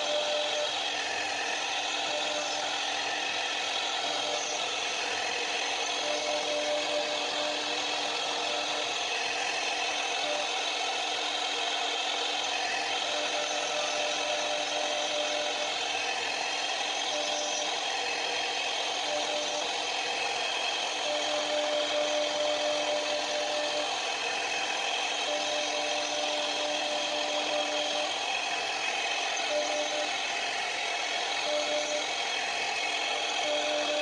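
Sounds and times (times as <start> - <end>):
router spindle cutting wood: 0.0 - 34.0
steady hum: 0.0 - 34.0.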